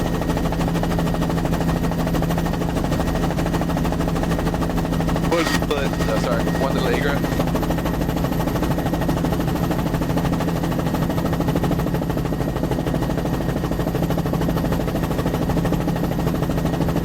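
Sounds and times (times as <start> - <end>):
helicopter cabin hum: 0.0 - 17.0.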